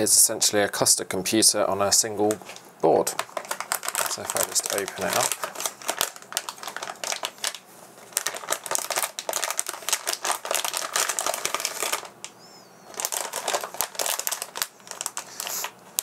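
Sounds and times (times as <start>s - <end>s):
plastic bag crinkling: 2.3s - 16.0s.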